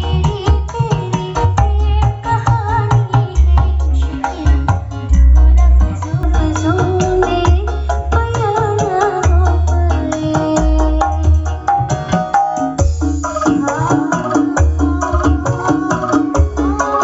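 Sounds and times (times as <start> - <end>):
deep bass notes: 0.0 - 17.0
hand drum percussion: 0.0 - 17.0
loud music over sound system: 0.0 - 17.0.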